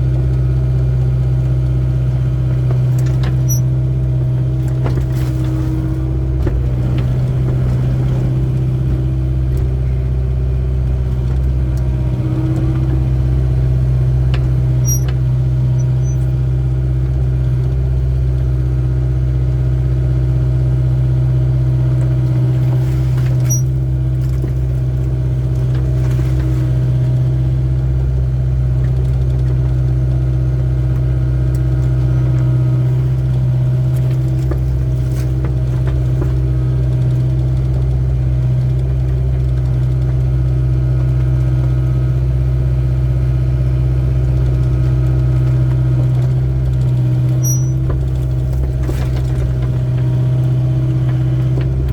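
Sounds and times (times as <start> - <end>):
diesel engine droning: 0.0 - 51.9.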